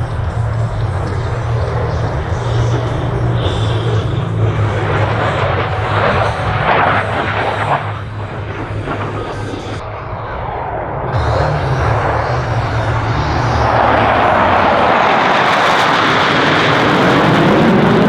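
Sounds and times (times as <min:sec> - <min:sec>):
military jet flying past: 0:00.0 - 0:18.0.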